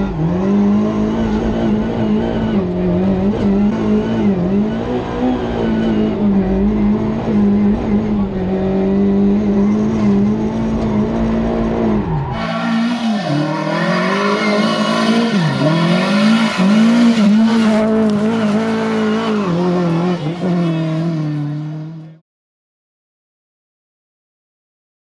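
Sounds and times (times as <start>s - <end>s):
rally car engine revving: 0.0s - 22.2s.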